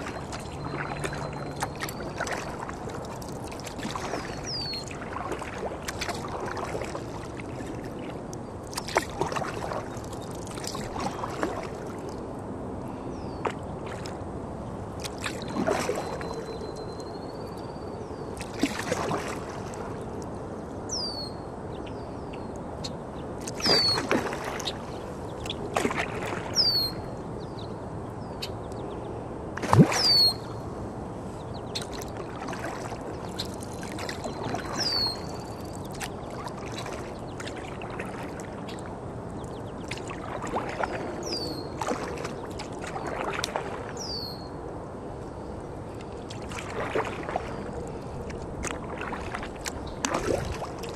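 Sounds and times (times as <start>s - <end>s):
paddle splashing in water: 0.0s - 12.3s, 13.4s - 14.2s, 14.9s - 17.7s, 18.3s - 20.2s, 23.4s - 27.1s, 29.6s - 30.6s, 31.2s - 44.5s, 45.9s - 50.9s
water sloshing against hull: 0.0s - 50.9s.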